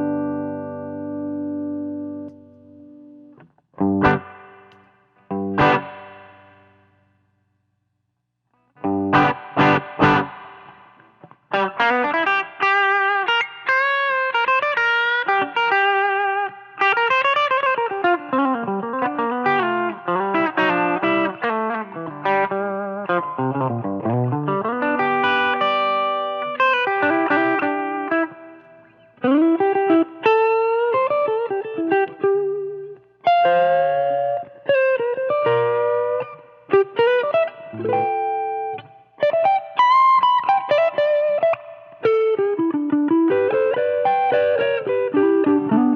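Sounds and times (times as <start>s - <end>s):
electric guitar lead line: 0.0s - 7.0s, 8.8s - 45.9s
overdriven electric guitar chord stabs: 0.0s - 7.0s, 8.8s - 45.9s.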